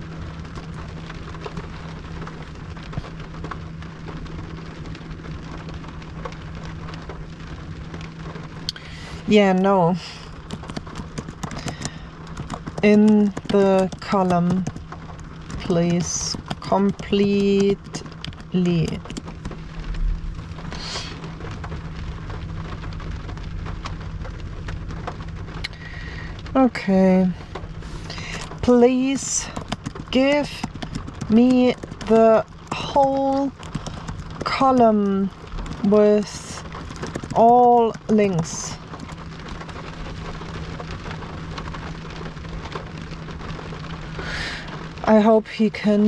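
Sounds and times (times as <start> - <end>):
rain on a car roof: 0.0 - 46.0
steady low hum: 0.0 - 46.0.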